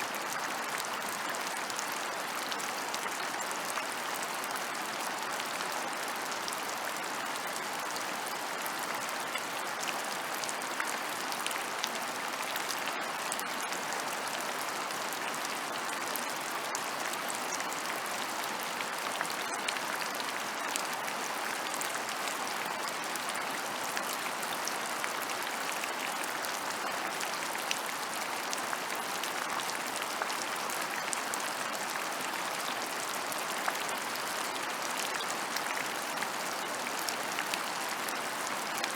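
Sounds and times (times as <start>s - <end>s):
rain pattering on ground: 0.0s - 38.9s.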